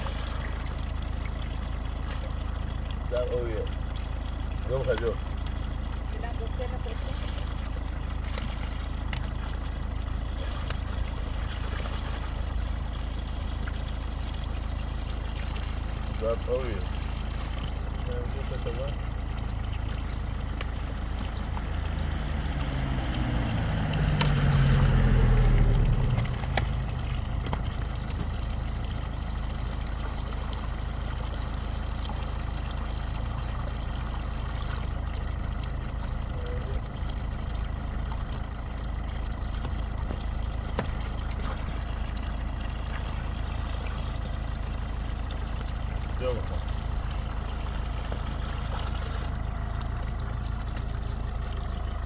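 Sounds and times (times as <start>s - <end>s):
vehicle engine rumbling: 0.0s - 52.0s.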